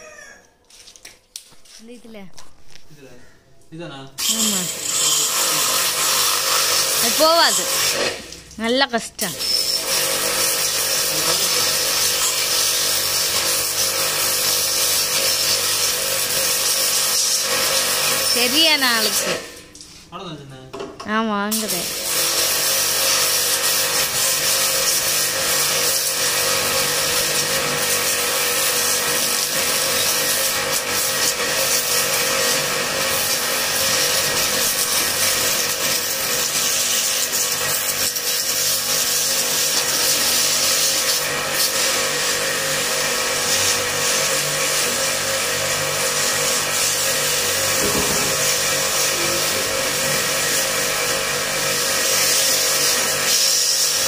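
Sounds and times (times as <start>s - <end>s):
high-pressure water jet spraying: 4.2s - 8.4s, 9.2s - 19.6s, 21.5s - 54.0s
pressure washer motor humming: 4.2s - 19.6s, 21.5s - 54.0s.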